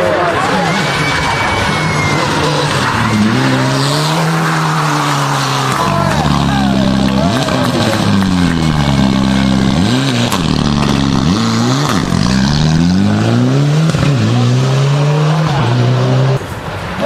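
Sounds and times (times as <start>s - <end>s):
rally car engine revving: 0.0s - 16.5s.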